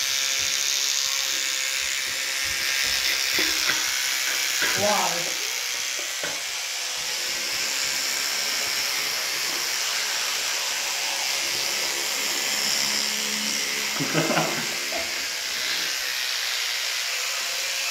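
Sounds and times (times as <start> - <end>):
electric toothbrush buzzing: 0.0 - 17.9.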